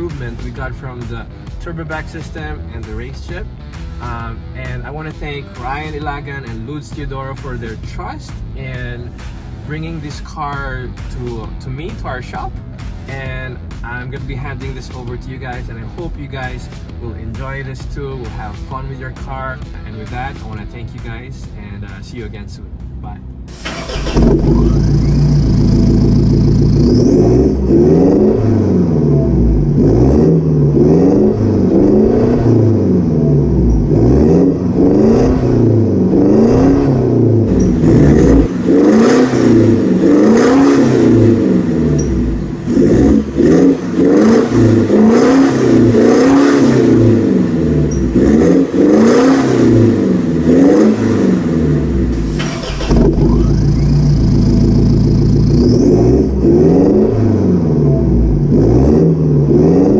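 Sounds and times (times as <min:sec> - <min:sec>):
diesel engine revving: 0:00.0 - 0:20.9, 0:23.2 - 0:59.9.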